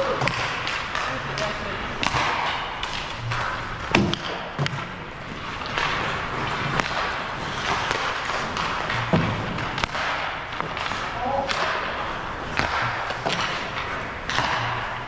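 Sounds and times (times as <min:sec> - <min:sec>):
pucks hitting the boards: 0:00.0 - 0:15.0
pucks struck by hockey sticks: 0:00.0 - 0:15.0.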